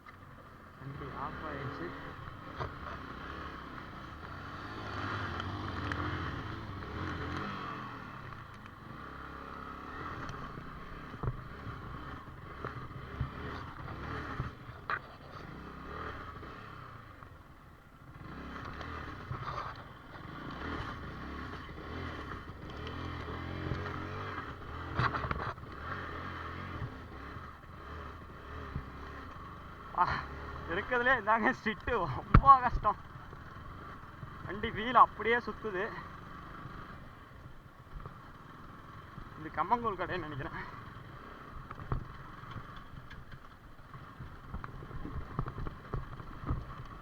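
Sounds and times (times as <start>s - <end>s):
motorcycle engine revving: 0.2s - 47.0s
bike knocking and scraping ground: 2.3s - 16.6s, 17.2s - 47.0s.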